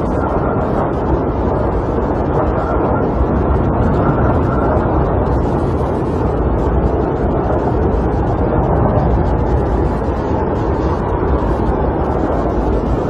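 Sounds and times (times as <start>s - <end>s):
wind blowing against camper: 0.0s - 13.0s.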